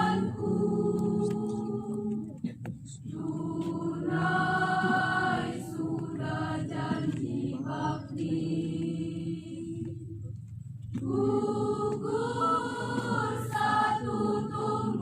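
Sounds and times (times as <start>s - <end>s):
choir singing: 0.0s - 2.4s, 3.1s - 10.1s, 10.9s - 15.0s.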